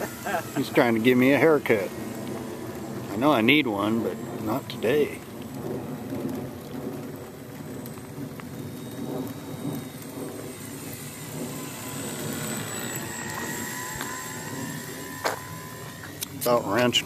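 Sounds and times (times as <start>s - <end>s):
model plane electric motor whine: 0.0s - 17.0s
steady rain: 0.0s - 17.0s.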